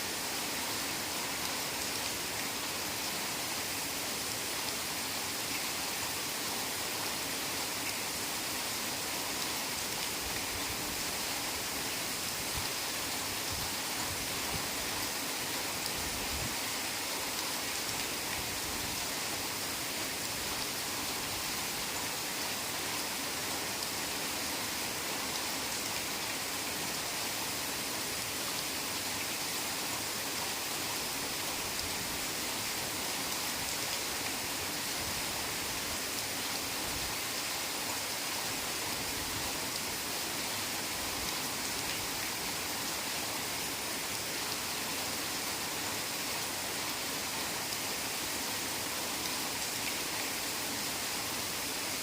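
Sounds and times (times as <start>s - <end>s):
heavy rain hiss: 0.0s - 52.0s.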